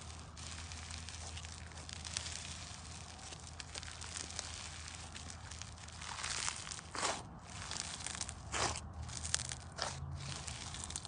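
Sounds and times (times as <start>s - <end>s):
slime crackling and tearing: 0.0s - 11.0s.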